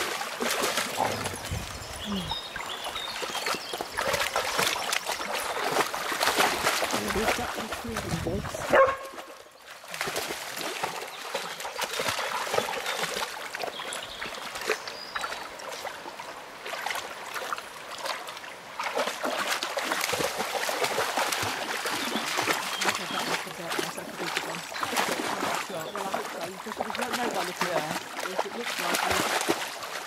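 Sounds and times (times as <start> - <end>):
dogs splashing through water: 0.0 - 30.0
river water rushing: 0.0 - 30.0.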